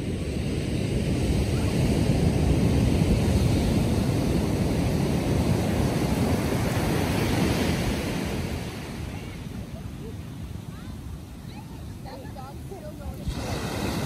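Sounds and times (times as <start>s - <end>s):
ocean surf breaking: 0.0s - 14.0s
wind rumbling on microphone: 0.0s - 14.0s.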